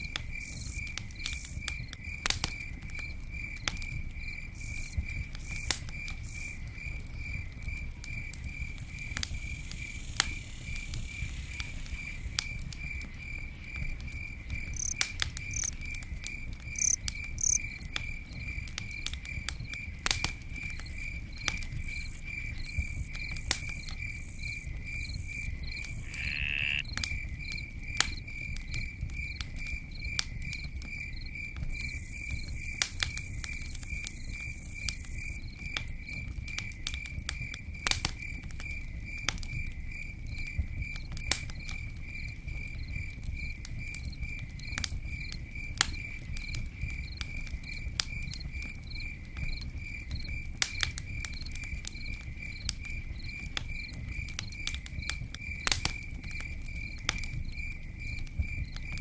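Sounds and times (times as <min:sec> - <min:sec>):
campfire crackling: 0:00.0 - 0:59.0
cricket chirping: 0:00.0 - 0:59.0.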